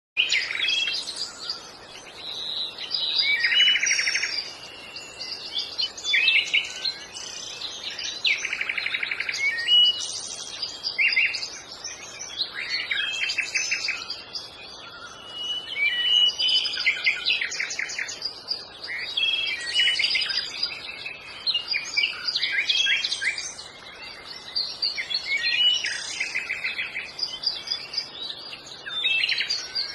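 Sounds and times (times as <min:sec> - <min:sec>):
birds chirping and trilling: 0:00.2 - 0:29.9.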